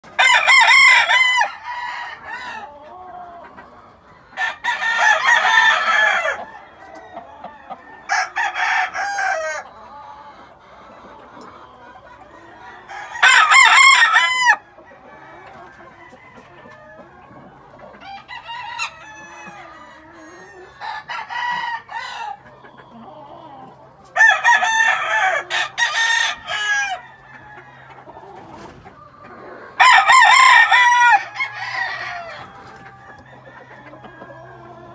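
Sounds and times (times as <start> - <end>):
roosters crowing: 0.0 - 10.6, 11.2 - 34.9
chickens clucking: 0.0 - 34.9.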